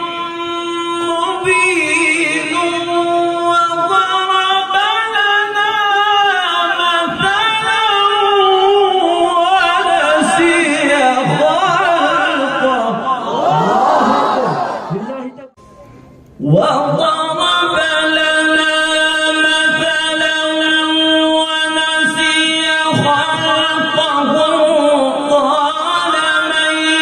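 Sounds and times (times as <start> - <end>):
man reciting melodically: 0.0 - 13.4, 14.9 - 27.0.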